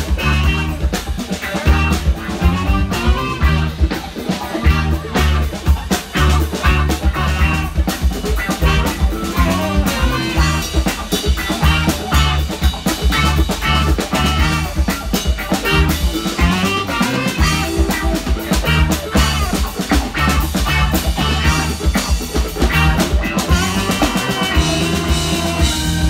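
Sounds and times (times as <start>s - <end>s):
drum kit: 0.0s - 26.0s
electric guitar: 0.0s - 26.0s
keyboards: 0.0s - 26.0s
tenor saxophone: 0.0s - 26.0s
trumpet: 0.0s - 26.0s.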